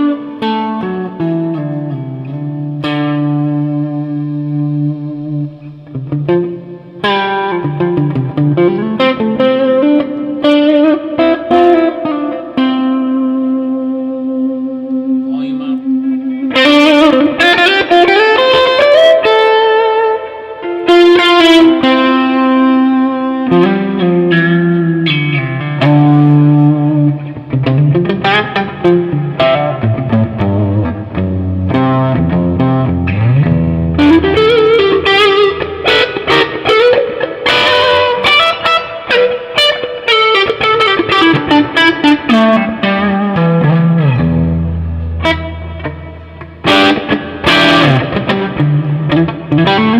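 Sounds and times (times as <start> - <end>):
electric guitar lead with reverb: 0.0 - 49.9.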